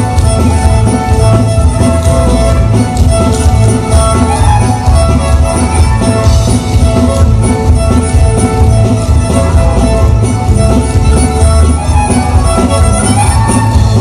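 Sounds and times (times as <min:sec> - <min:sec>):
guitar accompaniment: 0:00.0 - 0:14.0
pulsing bass beat: 0:00.0 - 0:14.0
square dance music: 0:00.0 - 0:14.0.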